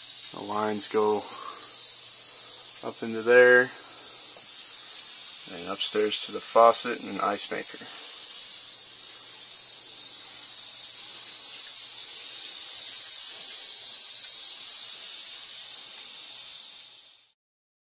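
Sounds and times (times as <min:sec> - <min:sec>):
high-pitched hiss: 0:00.0 - 0:17.4.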